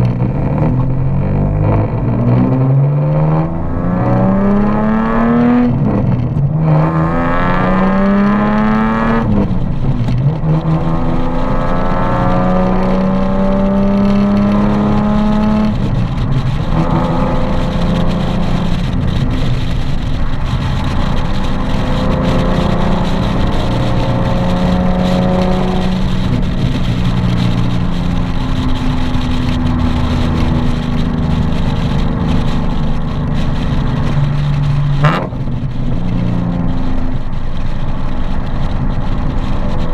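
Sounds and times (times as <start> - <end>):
car engine and exhaust revving: 0.0 - 39.9.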